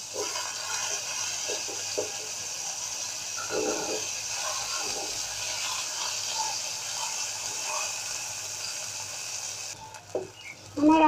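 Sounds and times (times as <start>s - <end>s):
spatula turning food: 0.0s - 10.8s
food sizzling in hot oil: 0.0s - 11.0s.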